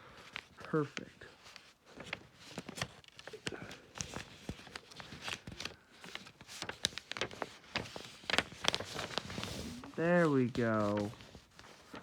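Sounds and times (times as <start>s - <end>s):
paper crinkling and rustling: 0.1s - 12.0s.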